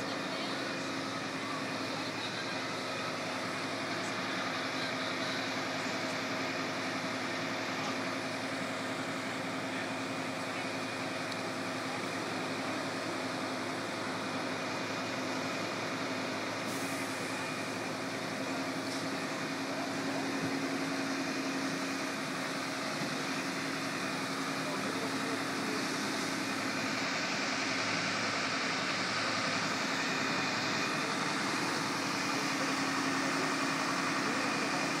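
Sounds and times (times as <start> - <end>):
fire engine droning: 0.0 - 35.0.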